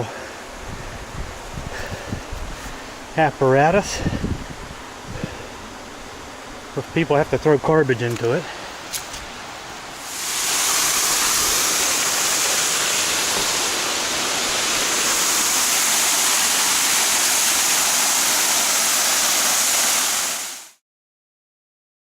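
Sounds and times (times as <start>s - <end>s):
water rushing in a creek: 0.0s - 20.8s.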